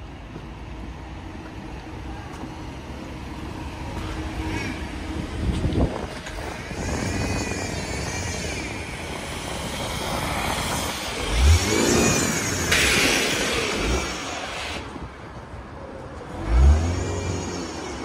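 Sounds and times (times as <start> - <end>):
vehicles passing close by: 0.0 - 18.0.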